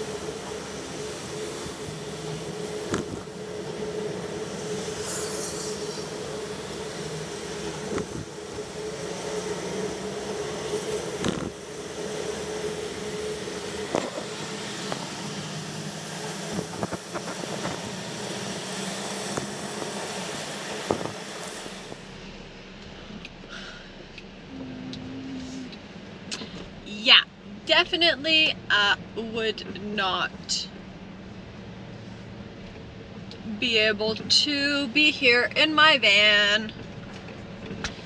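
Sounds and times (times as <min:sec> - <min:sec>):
steady hum: 0:00.0 - 0:36.7
car tyre and engine noise: 0:00.0 - 0:38.0.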